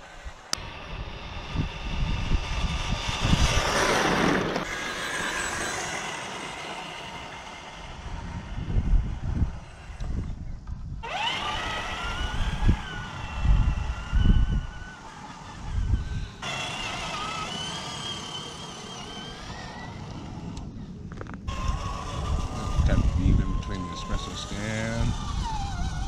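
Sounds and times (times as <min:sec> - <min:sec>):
electric motor and gears whining: 0:00.0 - 0:26.0
wind gusting on microphone: 0:00.0 - 0:26.0.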